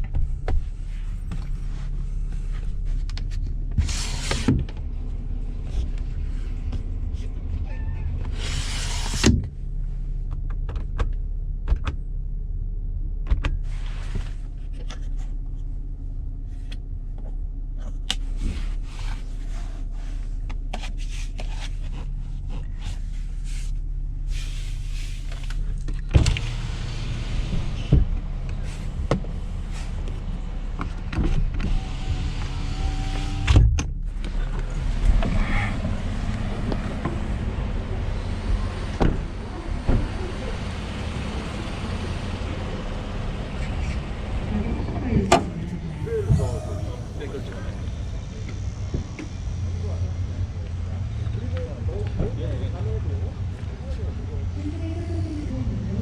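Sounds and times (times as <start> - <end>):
pickup engine running slowly: 0.0 - 56.0.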